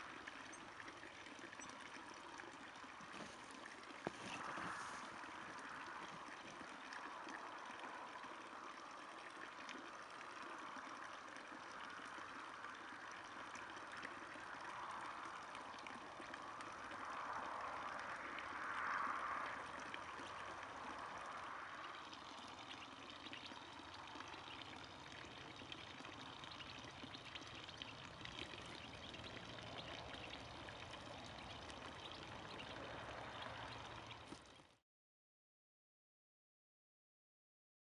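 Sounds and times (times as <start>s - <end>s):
water splashing into a pool: 0.0s - 34.8s.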